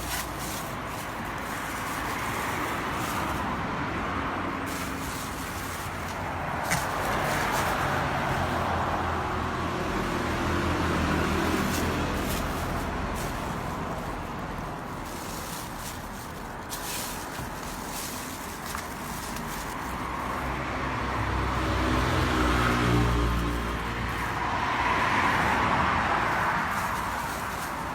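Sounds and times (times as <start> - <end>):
vehicle engines passing: 0.0 - 27.9.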